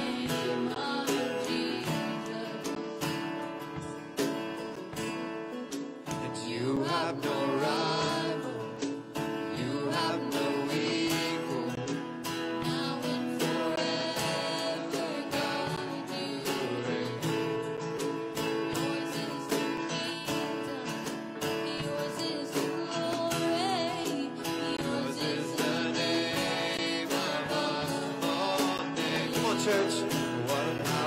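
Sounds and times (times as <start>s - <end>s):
voices singing: 0.0s - 4.3s, 6.1s - 31.0s
drums: 0.0s - 31.0s
keyboard: 0.0s - 31.0s
strummed acoustic guitar: 0.0s - 31.0s.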